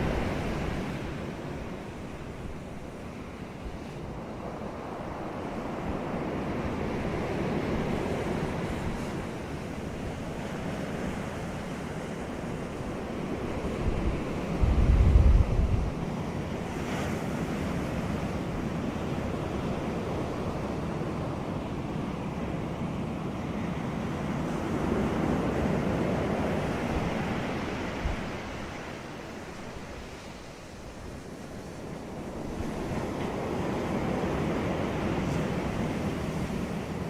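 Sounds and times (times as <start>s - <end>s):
sea waves washing onto beach: 0.0s - 37.0s.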